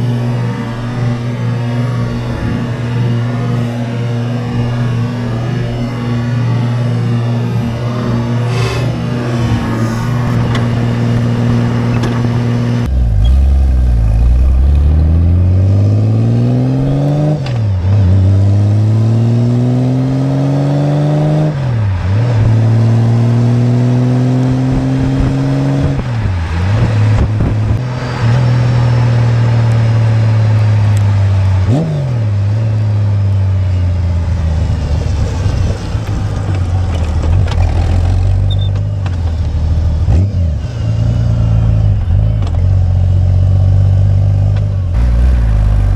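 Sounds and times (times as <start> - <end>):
motorcycle engine accelerating: 0.0 - 45.9
road and tyre noise: 0.0 - 45.9.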